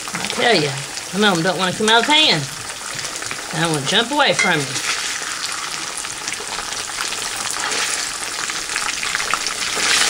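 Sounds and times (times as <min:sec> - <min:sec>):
steak sizzling in oil: 0:00.0 - 0:10.0.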